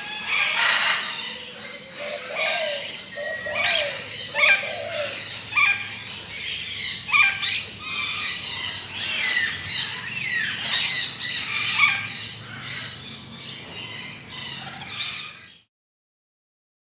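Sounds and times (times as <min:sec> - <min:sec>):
birds calling and chirping: 0:00.0 - 0:15.7.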